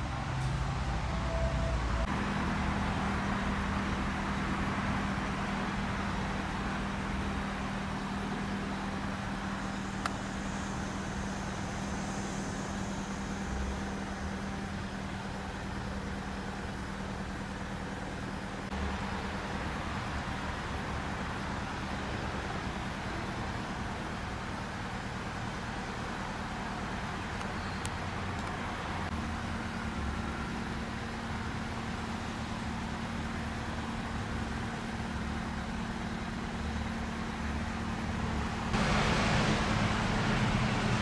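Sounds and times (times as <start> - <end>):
street traffic: 0.0 - 41.0.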